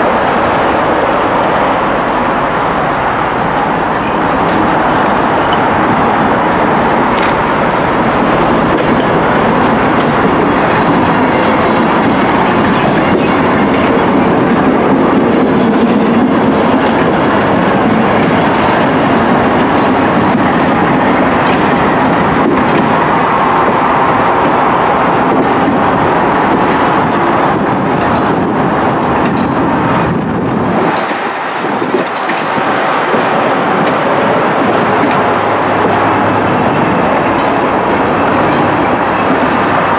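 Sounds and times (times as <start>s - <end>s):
locomotive passing: 0.0s - 39.9s
train coaches clattering over rails: 0.0s - 39.9s.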